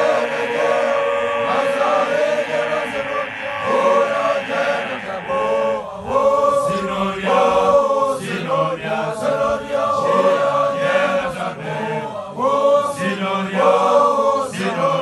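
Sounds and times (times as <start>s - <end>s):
group chanting: 0.0s - 15.0s.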